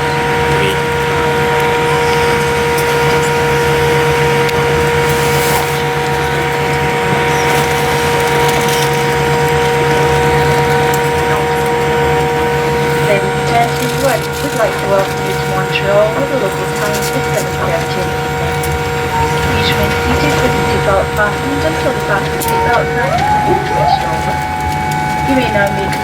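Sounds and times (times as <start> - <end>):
jet engines idling whine: 0.0 - 26.0
low cabin hum: 0.0 - 26.0.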